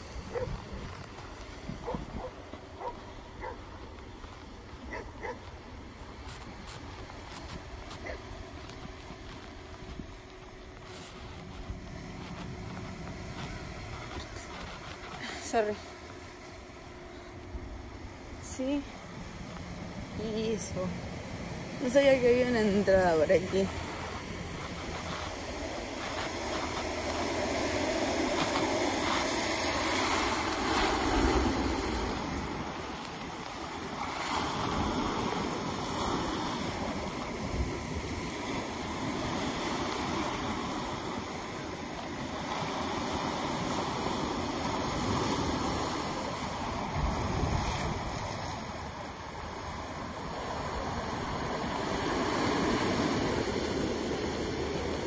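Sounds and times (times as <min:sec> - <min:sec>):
ocean surf breaking on rocks: 0:00.0 - 0:55.0.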